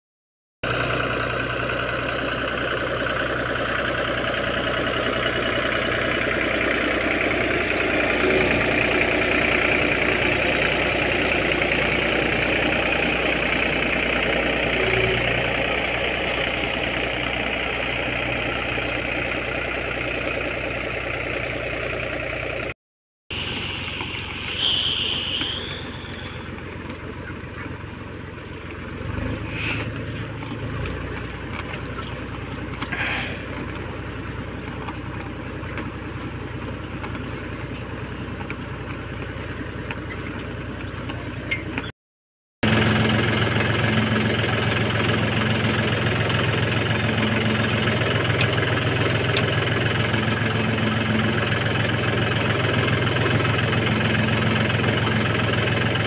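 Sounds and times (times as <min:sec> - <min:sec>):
tractor diesel engine running: 0:00.6 - 0:41.9, 0:42.6 - 0:56.0.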